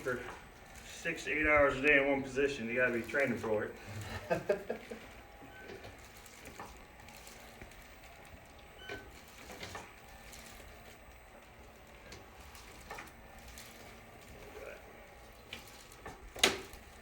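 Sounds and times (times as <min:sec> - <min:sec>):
faint steady mechanical hum: 0:00.0 - 0:17.0.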